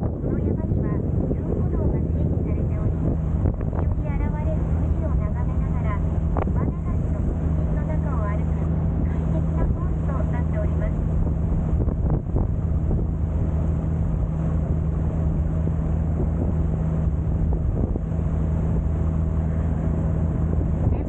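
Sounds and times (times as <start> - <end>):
boat engine running: 0.0 - 21.0
wind buffeting microphone: 0.0 - 21.0.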